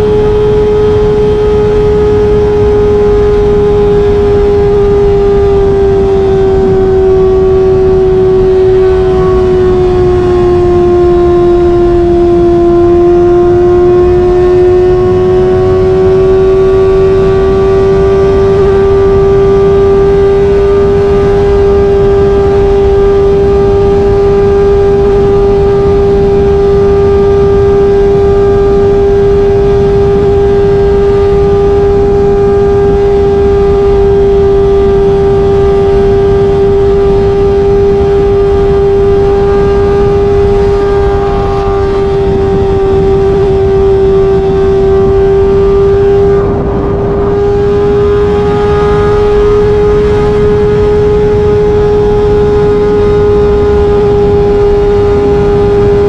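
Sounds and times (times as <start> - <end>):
motorcycle engine high drone: 0.0 - 56.0
wind and road noise: 0.0 - 56.0.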